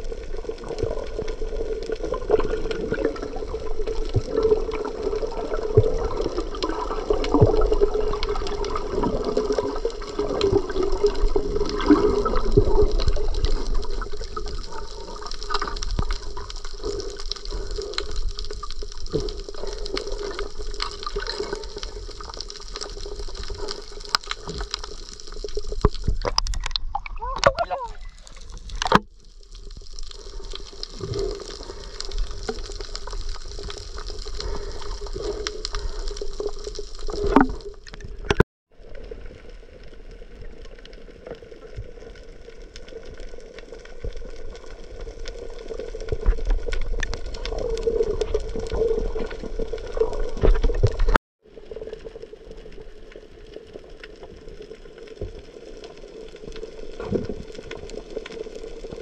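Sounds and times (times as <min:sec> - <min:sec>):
crackle of tiny clicks: 0:00.0 - 0:59.0
underwater water rush and bubbling: 0:00.0 - 0:59.0.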